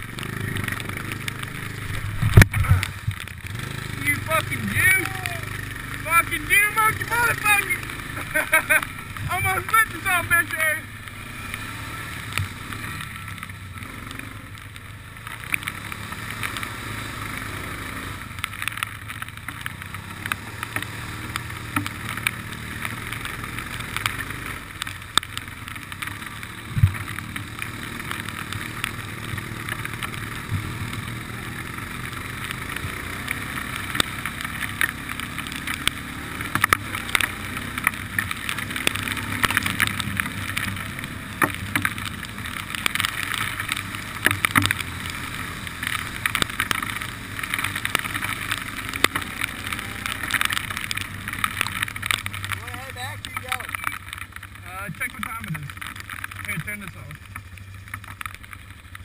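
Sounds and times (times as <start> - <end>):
quad engine running: 0.0 - 59.0.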